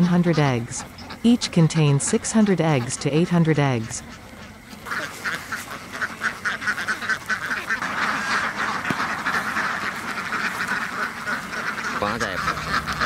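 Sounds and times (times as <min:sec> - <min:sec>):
flock of ducks quacking: 0:00.0 - 0:13.0.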